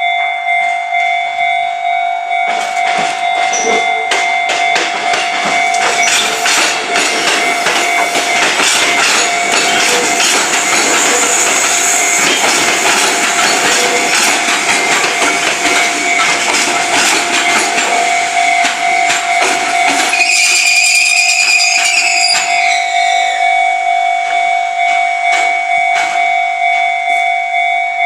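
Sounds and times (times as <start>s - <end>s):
crossing warning bell ringing: 0.0s - 28.0s
train wheels clattering on rails: 2.3s - 23.5s, 24.2s - 27.2s.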